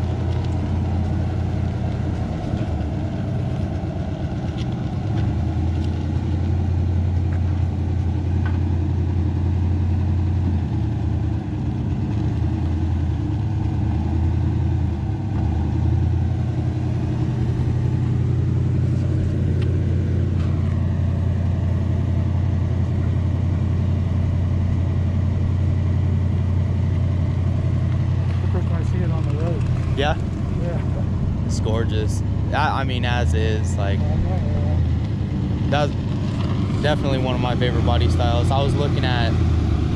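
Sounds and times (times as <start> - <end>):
vehicle engine low drone: 0.0 - 39.9.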